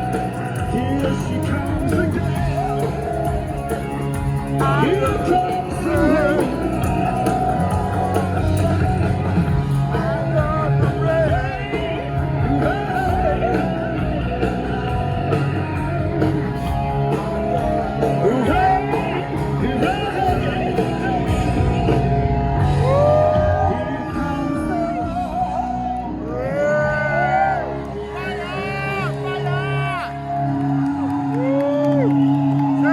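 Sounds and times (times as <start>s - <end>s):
live rock band playing: 0.0s - 30.8s
electric guitars: 0.0s - 32.9s
person singing: 0.0s - 32.9s.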